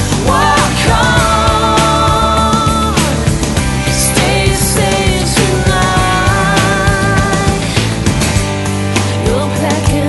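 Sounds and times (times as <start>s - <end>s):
rock song with full band: 0.0s - 10.0s.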